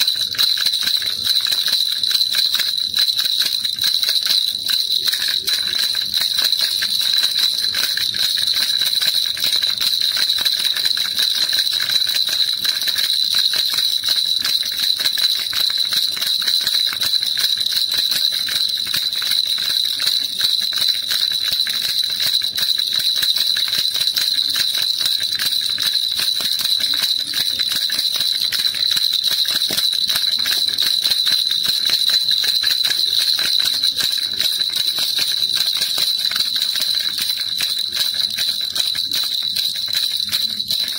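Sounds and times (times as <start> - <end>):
baby rattle jingling: 0.0 - 40.9.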